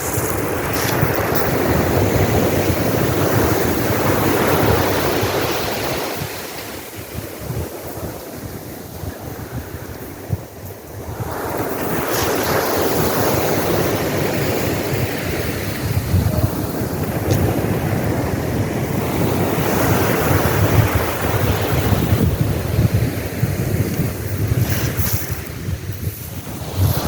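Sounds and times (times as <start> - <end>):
surf washing on beach: 0.0 - 27.0
wind buffeting microphone: 0.0 - 27.0.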